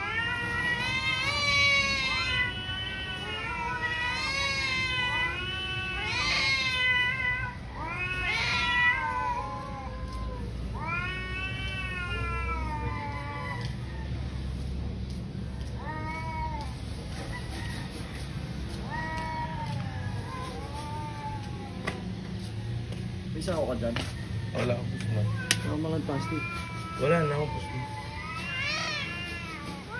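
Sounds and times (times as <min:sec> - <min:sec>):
cats yowling: 0:00.0 - 0:14.4, 0:15.5 - 0:22.7, 0:24.6 - 0:29.9.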